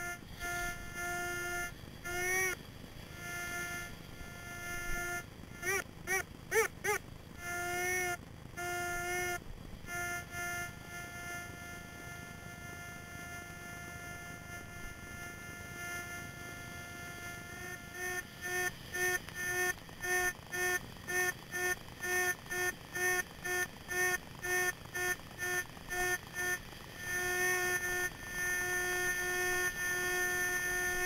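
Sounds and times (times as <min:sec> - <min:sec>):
electronic tone: 0:00.0 - 0:31.0.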